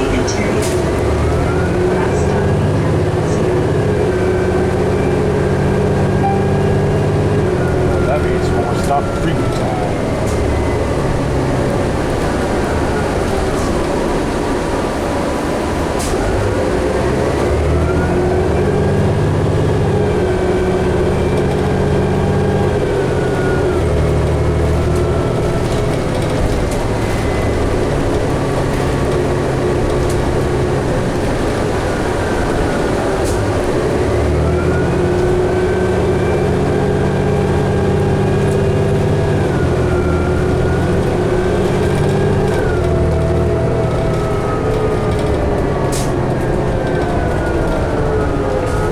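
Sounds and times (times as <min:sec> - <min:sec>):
bus engine accelerating: 0:00.0 - 0:48.9.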